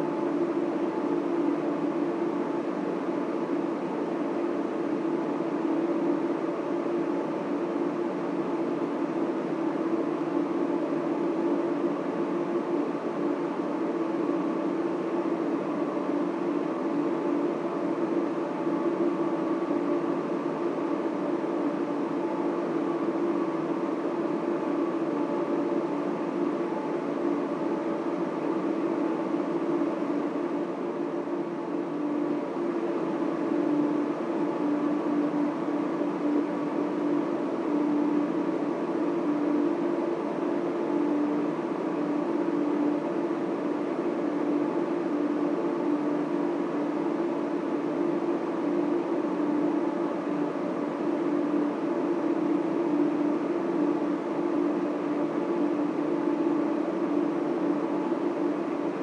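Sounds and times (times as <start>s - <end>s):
faint high whine: 0.0s - 59.0s.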